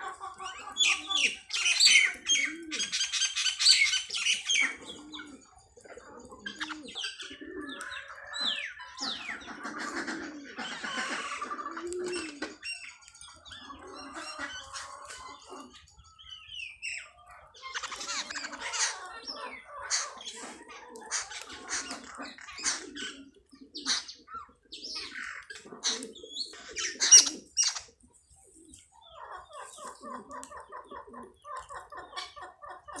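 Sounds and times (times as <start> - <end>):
sparrows chirping: 0.0 - 33.0.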